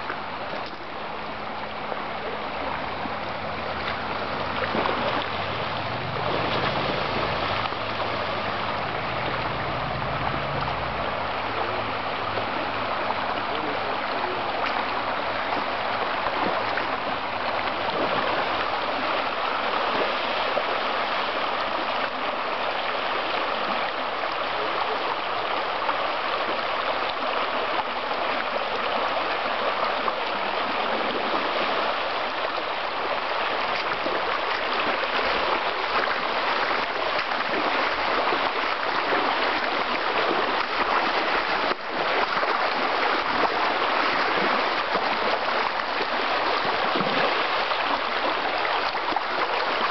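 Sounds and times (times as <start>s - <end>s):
creek water rushing: 0.0s - 49.9s.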